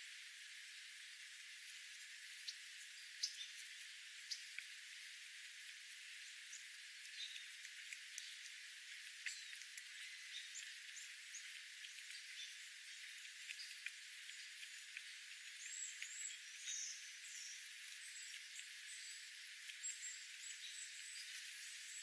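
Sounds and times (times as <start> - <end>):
steady hiss: 0.0 - 22.0
light scattered ticks: 0.4 - 22.0
faint bird chirps: 2.4 - 5.2, 6.1 - 22.0.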